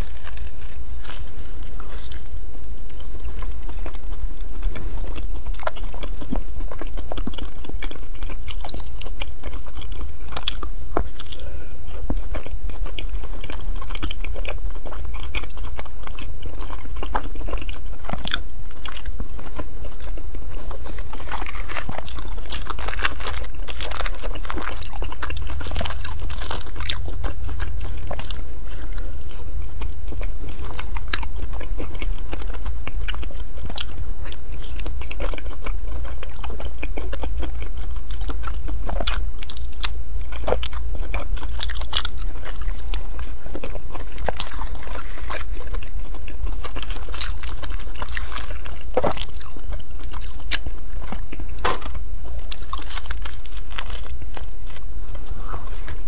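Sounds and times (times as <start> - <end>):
chewing soft rice cakes: 0.0 - 56.0
steady low hum: 0.0 - 56.0.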